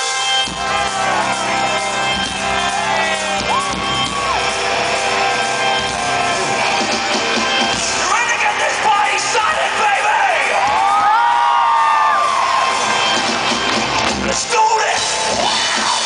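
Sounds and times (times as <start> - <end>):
crowd shouting and whooping: 0.0 - 16.0
loud rock music: 0.0 - 16.0.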